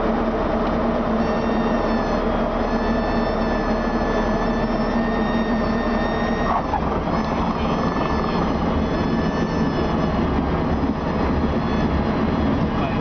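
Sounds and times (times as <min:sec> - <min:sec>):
propeller aircraft engine running: 0:00.0 - 0:13.0.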